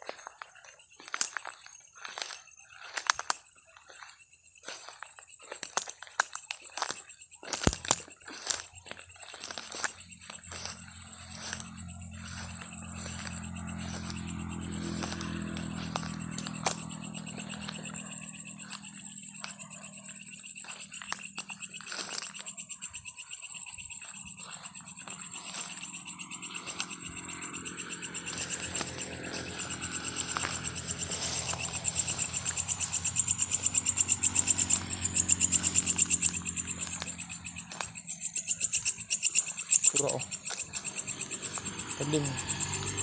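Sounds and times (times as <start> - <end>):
frogs and insects trilling: 0.0 - 43.0
rustles and clicks: 0.0 - 43.0.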